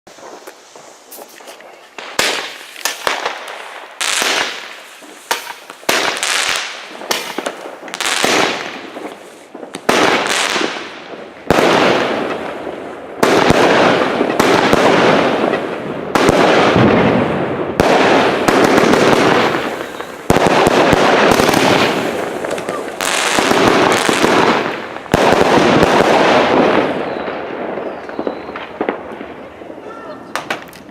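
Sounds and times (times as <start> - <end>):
firework bangs with hiss: 0.1 - 30.9.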